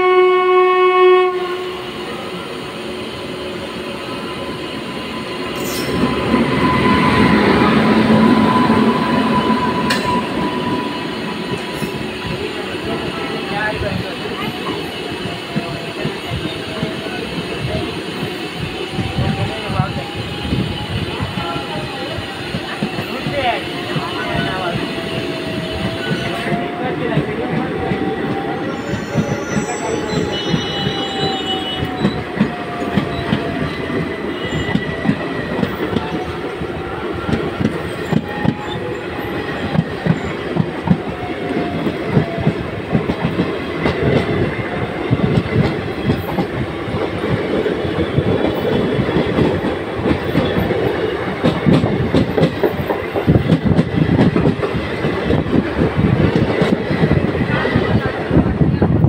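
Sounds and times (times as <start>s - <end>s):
train wheels clattering over rails: 5.5s - 59.0s.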